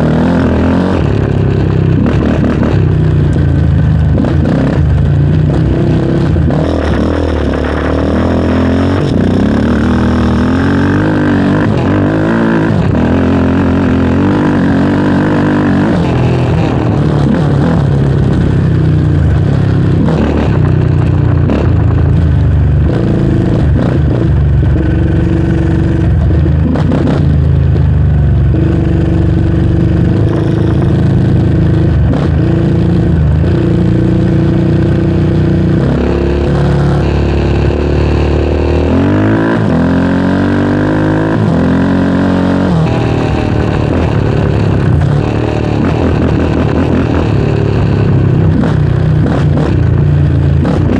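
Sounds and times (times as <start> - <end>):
quad engine revving: 0.0 - 27.8, 28.4 - 50.9.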